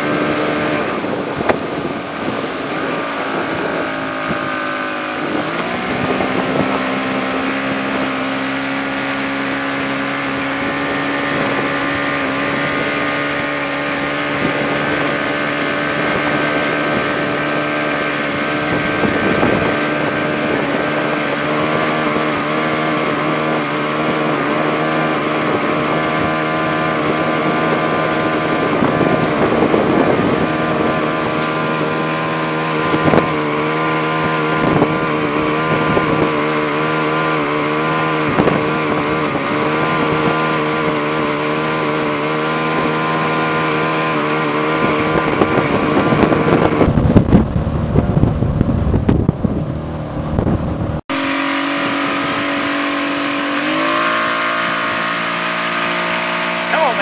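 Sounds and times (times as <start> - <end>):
motorboat engine running: 0.0 - 57.0
water rushing: 0.0 - 57.0
wind rumble on microphone: 0.0 - 57.0.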